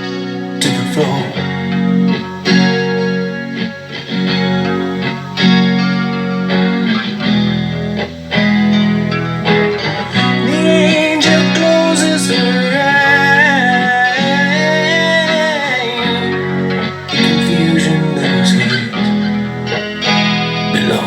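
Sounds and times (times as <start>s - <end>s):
electric guitar strumming chords: 0.0s - 21.0s
lead melody line: 0.0s - 21.0s.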